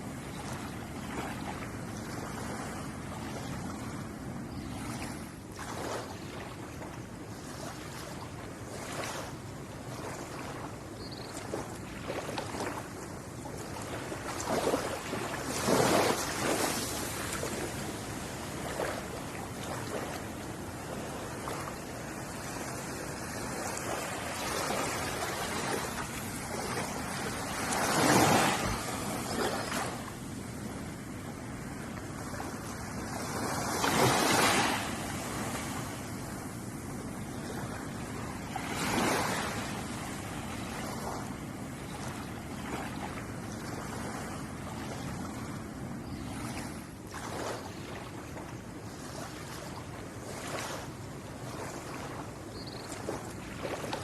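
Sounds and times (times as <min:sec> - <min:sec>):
ocean waves washing ashore: 0:00.0 - 0:54.0
waves breaking: 0:00.2 - 0:04.0, 0:04.6 - 0:54.0.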